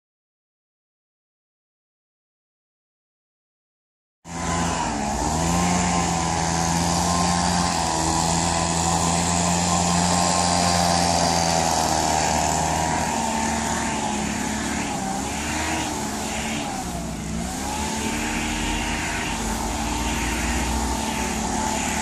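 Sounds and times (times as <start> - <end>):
leaf blower running: 4.3 - 22.0
leaves rustling: 4.4 - 22.0.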